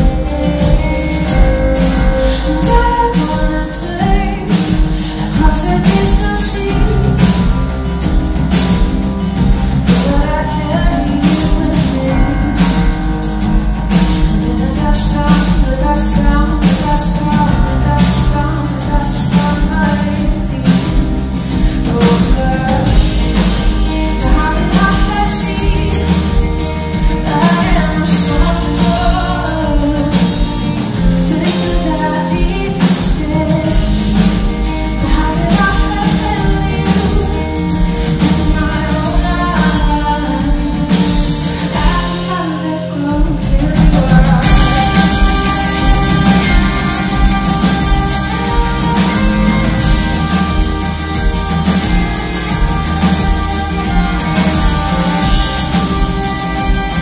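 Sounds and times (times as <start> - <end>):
acoustic guitar: 0.0 - 57.0
drums: 0.0 - 57.0
electric guitar: 0.0 - 57.0
woman singing: 0.0 - 57.0.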